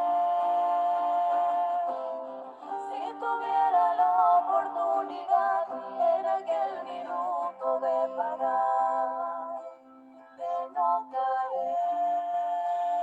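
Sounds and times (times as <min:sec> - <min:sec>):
person singing slow melody: 0:00.0 - 0:13.0.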